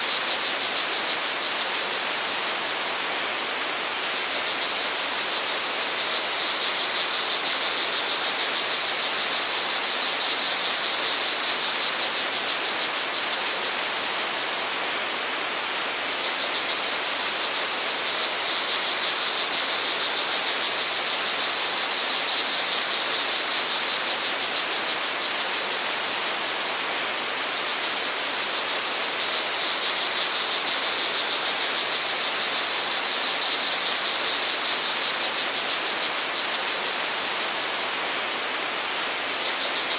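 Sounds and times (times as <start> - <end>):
crickets trilling: 0.1 - 14.7, 15.6 - 39.9.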